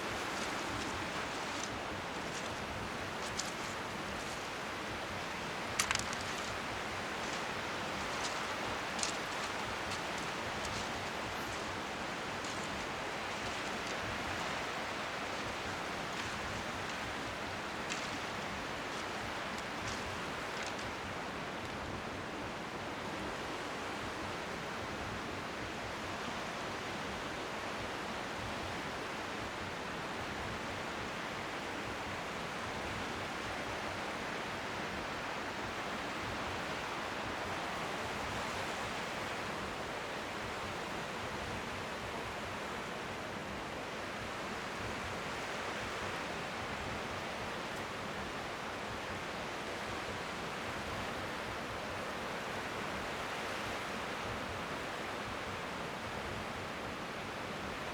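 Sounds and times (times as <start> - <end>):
waves lapping on shore: 0.0 - 57.9.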